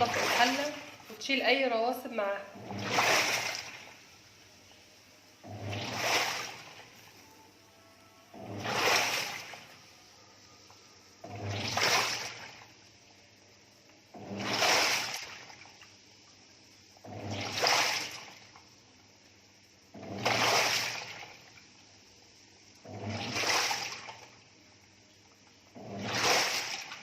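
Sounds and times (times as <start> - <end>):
washing machine sloshing water: 0.0 - 4.6, 5.2 - 7.3, 8.2 - 10.1, 10.7 - 13.4, 14.0 - 18.9, 19.8 - 22.0, 22.6 - 24.6, 25.2 - 27.0.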